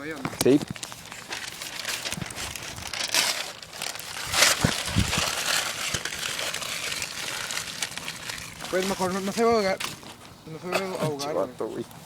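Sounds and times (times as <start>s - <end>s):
campfire crackling: 0.0s - 10.4s
crinkling and rustling: 0.0s - 12.0s.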